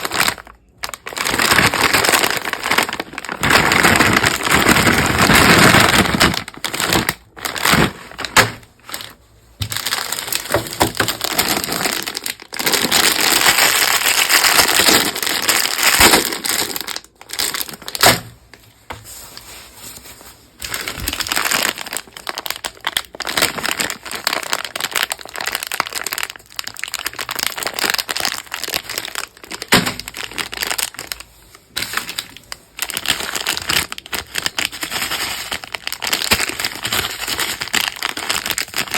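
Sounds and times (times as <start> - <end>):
plastic wrapping crumpled: 0.0 - 38.9.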